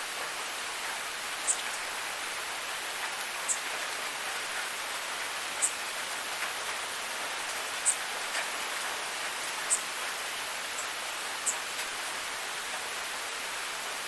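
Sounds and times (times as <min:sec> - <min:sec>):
light rain falling: 0:00.0 - 0:14.0.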